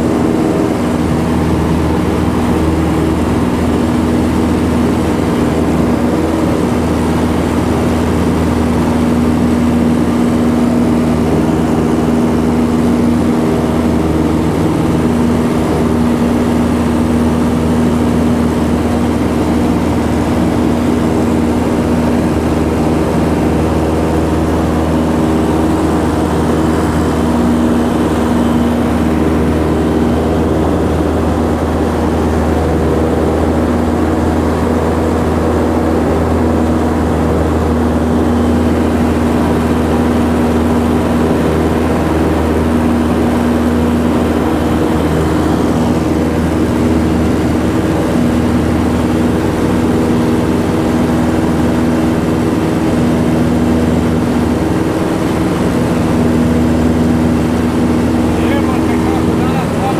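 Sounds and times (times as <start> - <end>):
light airplane engine drone: 0.0 - 59.9.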